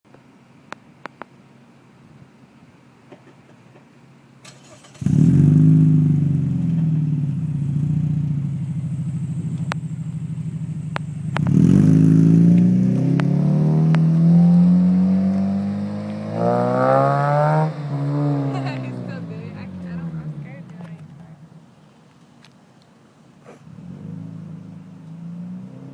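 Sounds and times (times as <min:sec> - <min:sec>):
car engine idling and revving: 0:04.4 - 0:25.9.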